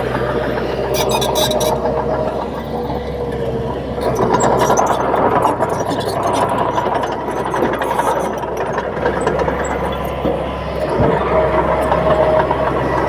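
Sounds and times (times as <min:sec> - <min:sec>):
bulldozer diesel engine running: 0:00.0 - 0:13.0.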